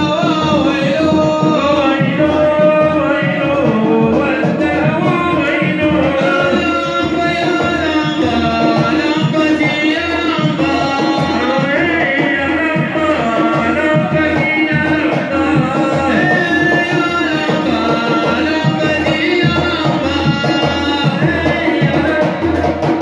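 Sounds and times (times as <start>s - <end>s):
hand drum beat: 0.0s - 23.0s
man singing through microphone: 0.0s - 23.0s.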